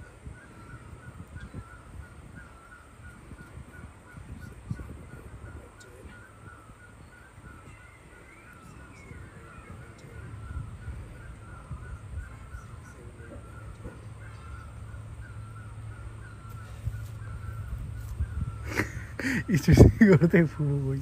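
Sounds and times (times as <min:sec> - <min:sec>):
bird calling wavering notes: 0:00.0 - 0:21.0.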